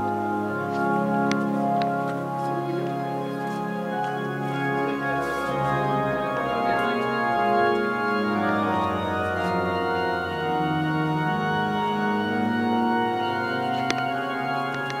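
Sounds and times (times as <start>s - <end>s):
pipe organ playing chords: 0.0s - 15.0s.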